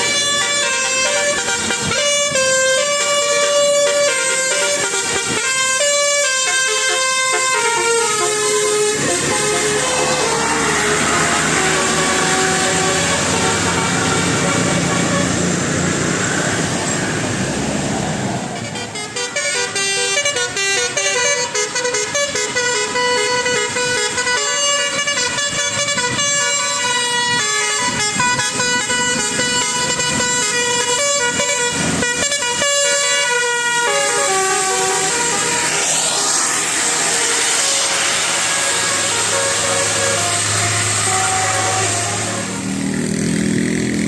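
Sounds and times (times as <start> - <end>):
bus musical air horn tune: 0.0 - 15.9, 18.4 - 43.7.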